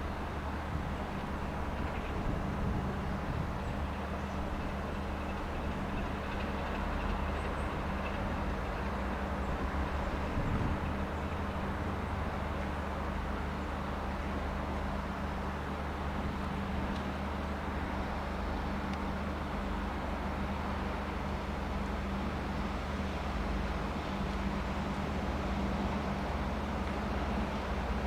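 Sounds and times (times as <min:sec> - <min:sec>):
diesel locomotive engine running: 0:00.0 - 0:28.0.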